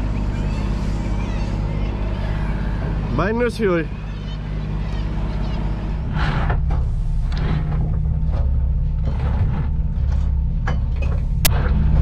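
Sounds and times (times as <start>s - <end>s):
low steady boat drone: 0.0s - 12.0s.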